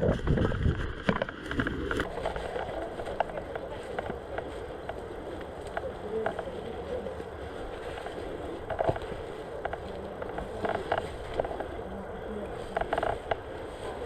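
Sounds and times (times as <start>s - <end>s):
movement and wind rumble on mic: 0.0s - 14.0s.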